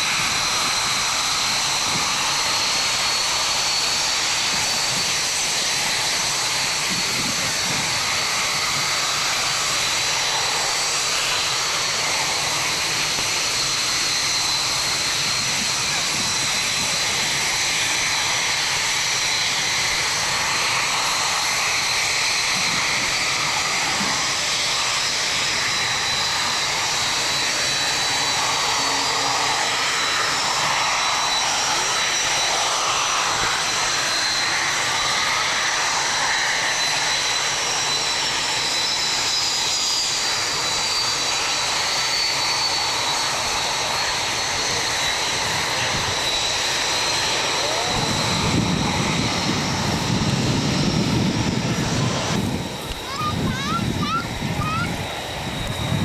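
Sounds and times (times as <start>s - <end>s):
high turbine whine: 0.0s - 56.0s
jet engines rushing: 0.0s - 56.0s
second whine drifting in pitch: 0.0s - 56.0s.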